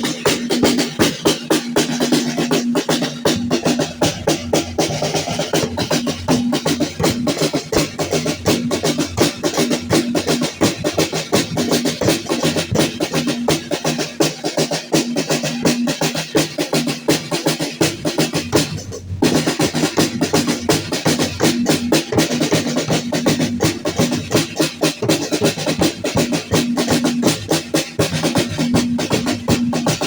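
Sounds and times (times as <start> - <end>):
rapid drum strikes: 0.0 - 30.0.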